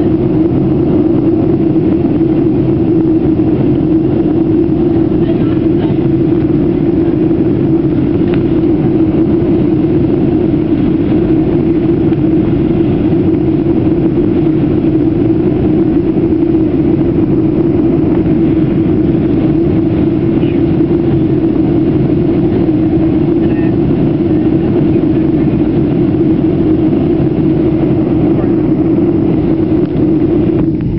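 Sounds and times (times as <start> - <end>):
jet engine drone: 0.0 - 30.9
rushing air: 0.0 - 30.9
steady low hum: 0.0 - 30.9.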